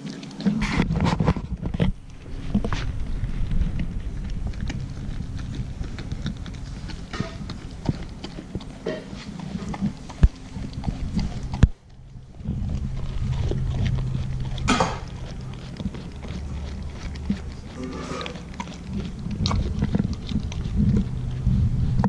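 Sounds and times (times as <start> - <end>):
dog chewing and licking: 0.0 - 22.0
low steady hum: 0.0 - 22.0.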